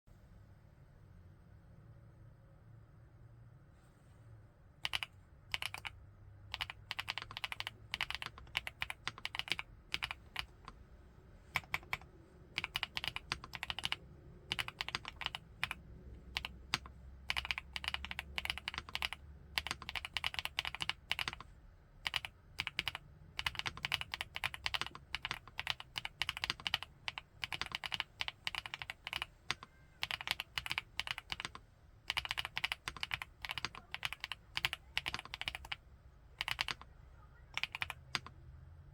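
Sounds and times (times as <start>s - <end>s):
mechanical keyboard typing: 4.8s - 5.9s, 6.5s - 10.8s, 11.4s - 36.9s, 37.5s - 38.4s.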